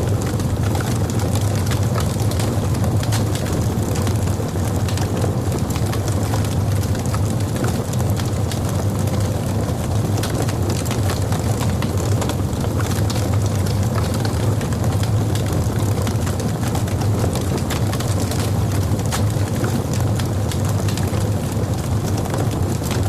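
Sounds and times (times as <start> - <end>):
fire rumbling: 0.0 - 23.0
wood crackling and popping: 0.0 - 23.0.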